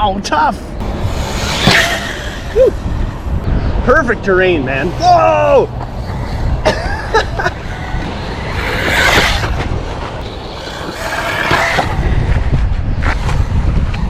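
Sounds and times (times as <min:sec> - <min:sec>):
rc truck motor and tyres on sand: 0:00.0 - 0:14.0
wind buffeting microphone: 0:00.0 - 0:14.0.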